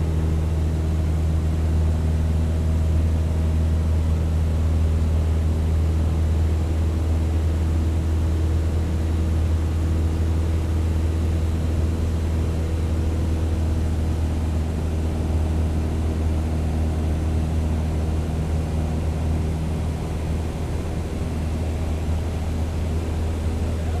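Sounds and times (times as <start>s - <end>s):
propeller plane droning: 0.0s - 24.0s.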